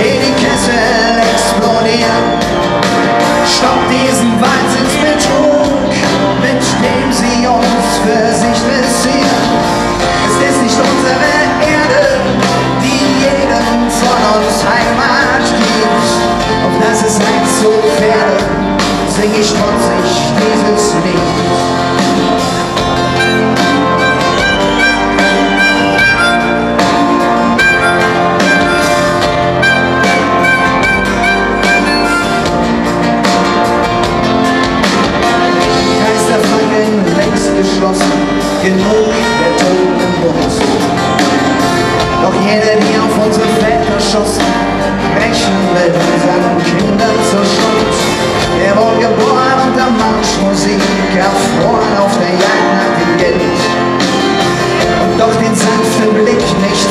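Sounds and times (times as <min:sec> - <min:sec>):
drums: 0:00.0 - 0:56.9
strummed acoustic guitars: 0:00.0 - 0:56.9.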